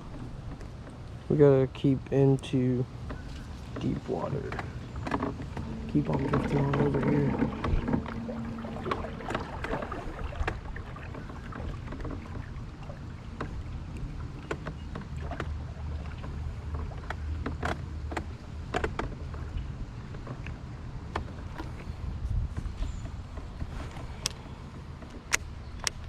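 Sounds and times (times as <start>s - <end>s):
light clicks and knocks from boat: 0.0s - 26.0s
wind rumbling on microphone: 0.0s - 26.0s.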